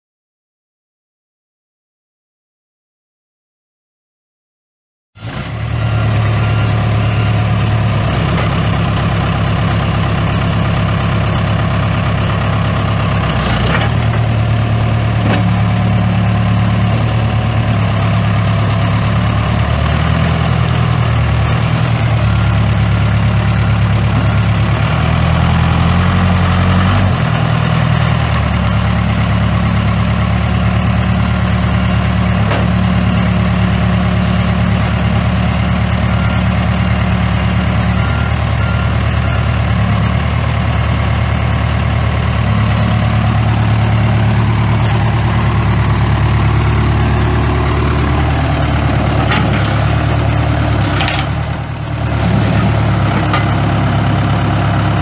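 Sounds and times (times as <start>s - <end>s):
diesel engine idling: 5.3s - 55.0s.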